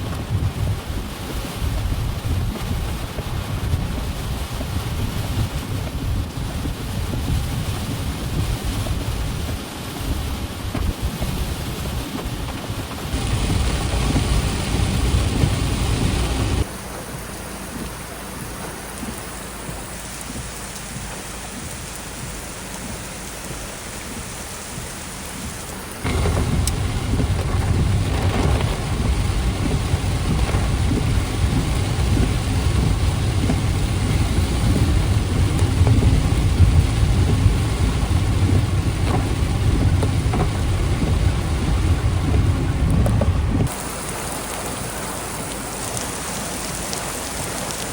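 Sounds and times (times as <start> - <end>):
heavy rain: 0.0 - 47.9
wind rumble on microphone: 0.0 - 47.9.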